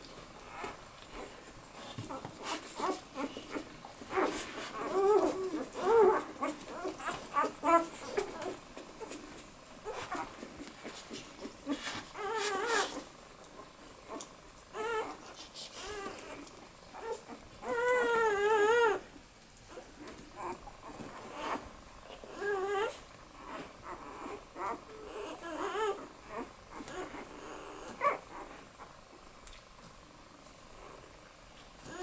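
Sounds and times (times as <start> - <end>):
puppies whimpering and squealing: 0.4 - 19.1, 19.7 - 29.0.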